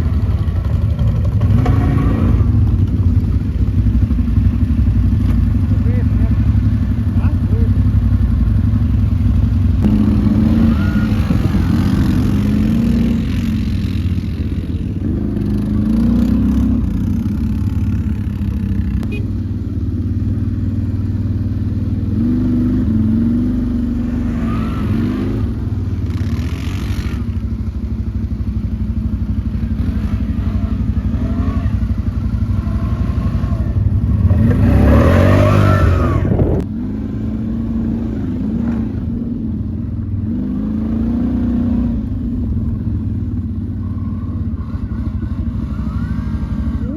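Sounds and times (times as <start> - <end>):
quad bike engine revving: 0.0 - 39.4, 40.2 - 46.9.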